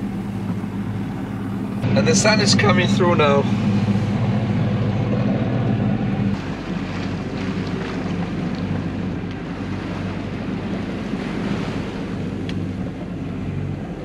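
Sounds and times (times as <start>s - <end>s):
boat engine droning: 0.0s - 14.0s
sea washing around hull: 0.0s - 14.0s
wind buffeting microphone: 0.0s - 14.0s.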